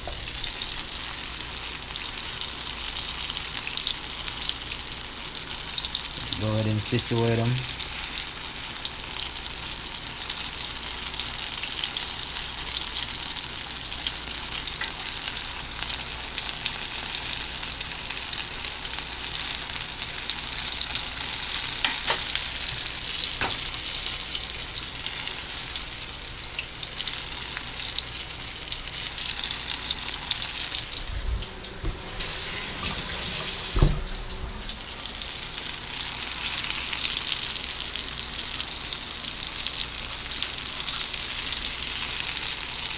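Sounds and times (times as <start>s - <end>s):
food deep-frying in oil: 0.0s - 42.9s.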